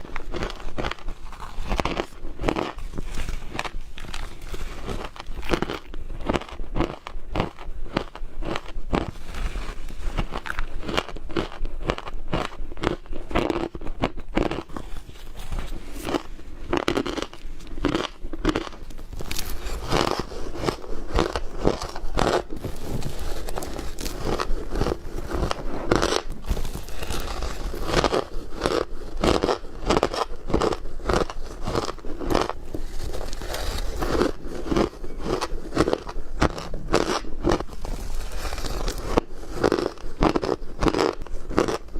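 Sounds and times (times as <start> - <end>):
ice being chewed crunching: 0.0 - 41.9.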